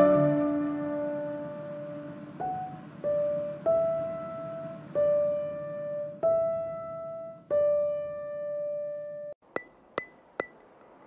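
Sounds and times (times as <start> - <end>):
slow piano melody: 0.0 - 9.4.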